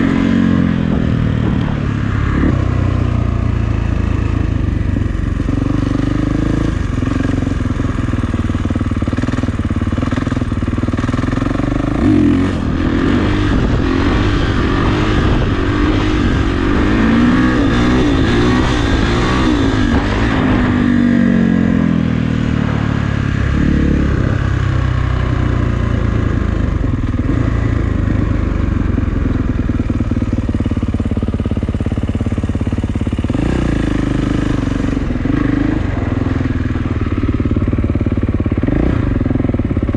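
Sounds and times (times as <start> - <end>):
dirt bike engine revving: 0.0 - 3.5, 9.0 - 28.3, 30.3 - 39.8.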